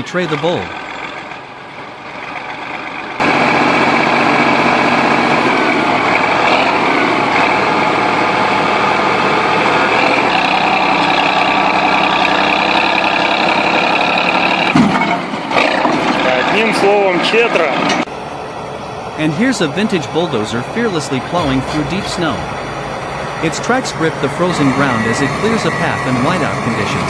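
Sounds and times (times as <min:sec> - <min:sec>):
bulldozer engine running: 0:00.0 - 0:16.6, 0:18.0 - 0:27.0.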